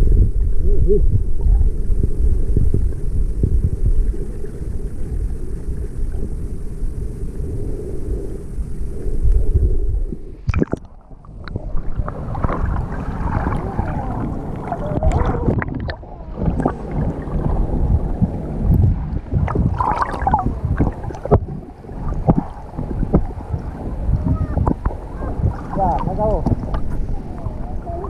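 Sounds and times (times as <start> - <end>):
bubbling gurgles: 0.0 - 6.4, 10.4 - 28.0
underwater rumble: 0.0 - 28.0.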